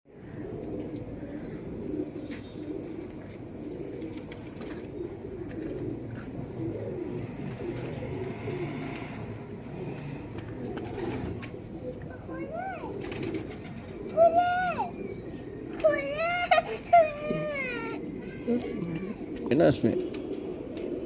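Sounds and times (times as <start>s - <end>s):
pigeons cooing: 0.1s - 21.0s.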